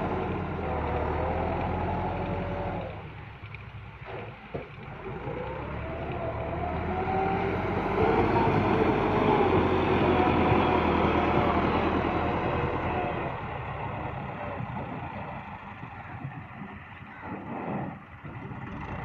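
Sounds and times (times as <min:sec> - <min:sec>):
diesel tractor engine under load: 0:00.0 - 0:19.0.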